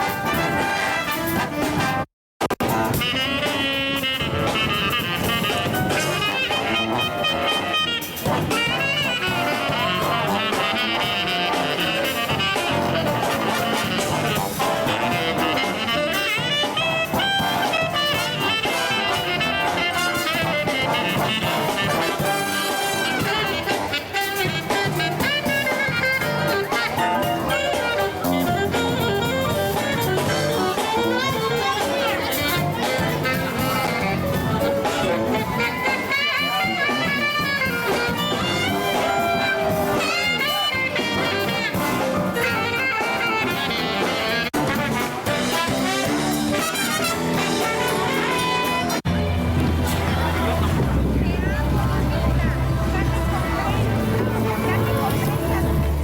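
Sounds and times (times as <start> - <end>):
up-tempo brass jazz music: 0.0 - 56.0.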